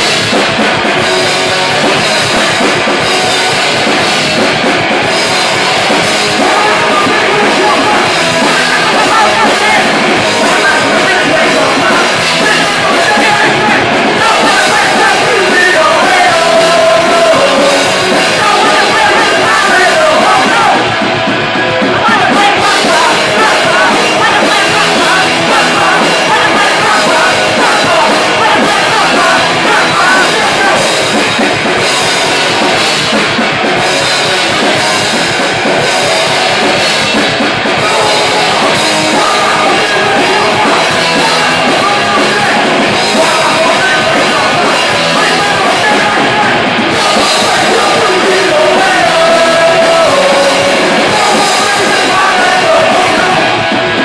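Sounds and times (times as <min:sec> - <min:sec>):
punk rock band playing: 0:00.0 - 0:54.0.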